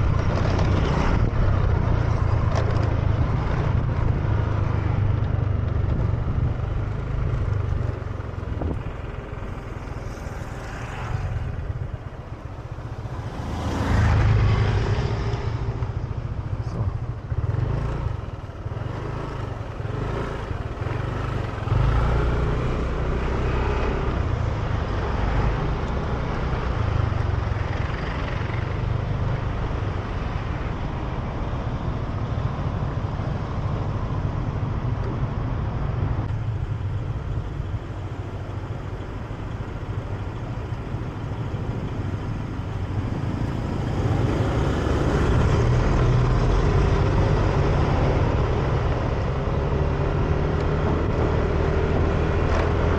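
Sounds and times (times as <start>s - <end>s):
road noise: 0.0s - 52.9s.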